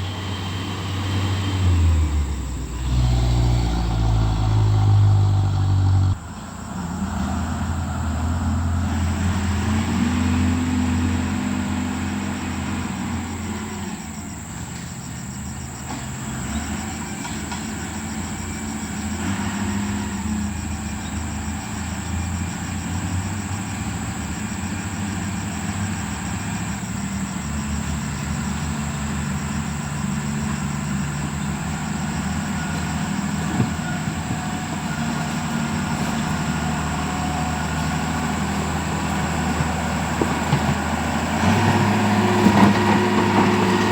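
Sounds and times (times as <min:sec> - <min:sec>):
diesel machinery engine running: 0:00.0 - 0:43.9.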